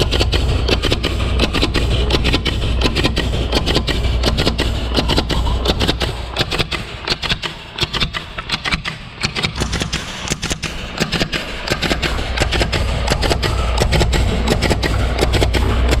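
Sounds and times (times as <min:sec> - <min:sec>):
low machine hum: 0:00.0 - 0:07.8, 0:09.6 - 0:16.0.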